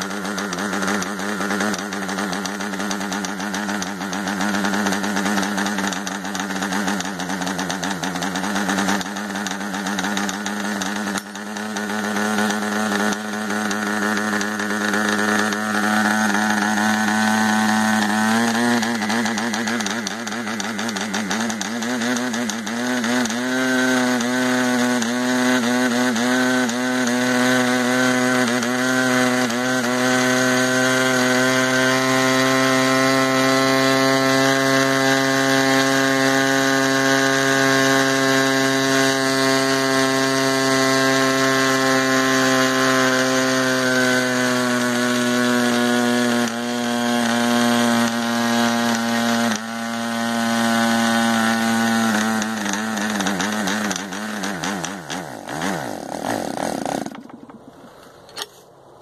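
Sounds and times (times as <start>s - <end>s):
model aircraft engine running: 0.0s - 58.6s.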